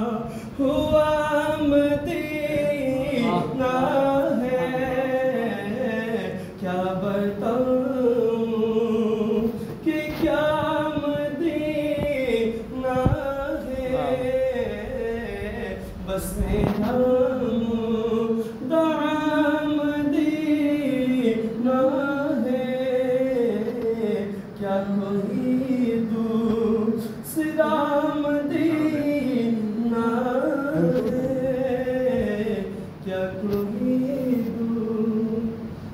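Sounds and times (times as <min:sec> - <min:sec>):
man singing unaccompanied: 0:00.0 - 0:35.9.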